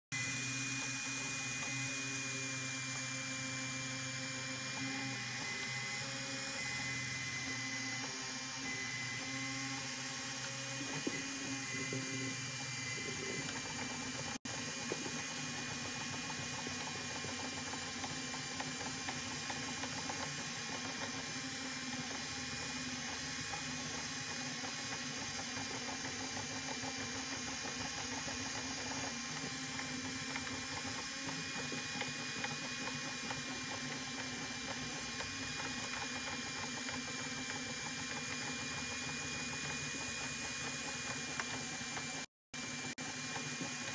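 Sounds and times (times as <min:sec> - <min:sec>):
stepper motors whining: 0:00.1 - 0:43.9.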